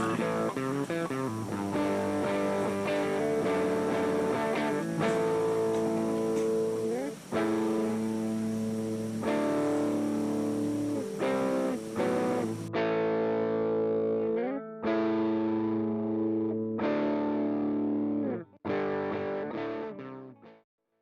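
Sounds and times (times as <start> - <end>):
guitar chords: 0.0 - 20.6.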